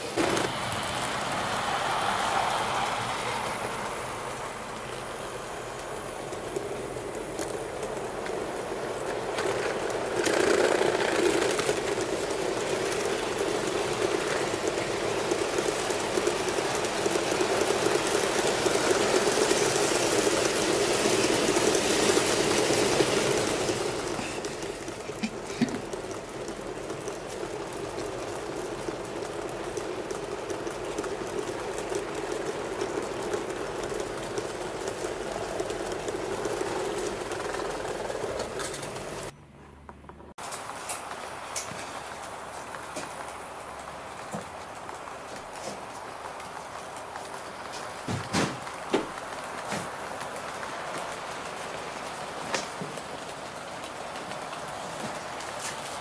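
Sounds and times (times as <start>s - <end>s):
model train running on track: 0.0s - 39.3s, 40.4s - 56.0s
sharp clicks from rails: 0.0s - 56.0s.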